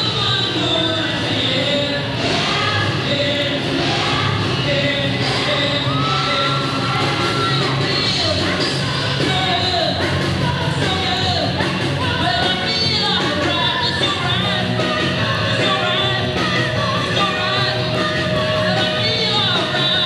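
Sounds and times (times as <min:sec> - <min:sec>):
live rock band with singer: 0:00.0 - 0:20.0.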